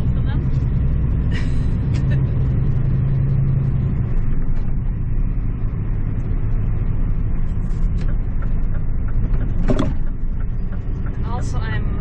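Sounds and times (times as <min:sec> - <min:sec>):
road and cab rumble: 0:00.0 - 0:12.0
truck engine low note: 0:00.0 - 0:12.0.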